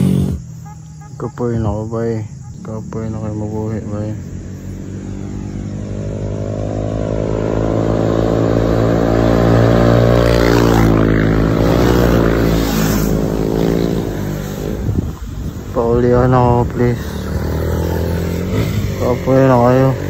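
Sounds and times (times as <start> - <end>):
motorcycle engines approaching: 0.0 - 20.0.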